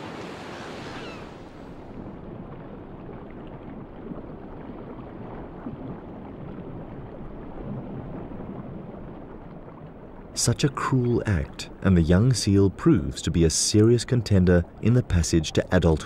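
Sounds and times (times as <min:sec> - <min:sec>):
sea water washing: 0:00.0 - 0:16.0
muffled underwater ambience: 0:01.0 - 0:16.0.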